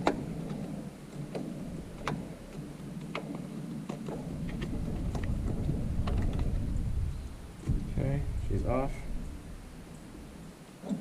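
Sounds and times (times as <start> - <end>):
low rumbling background: 0.0 - 11.0.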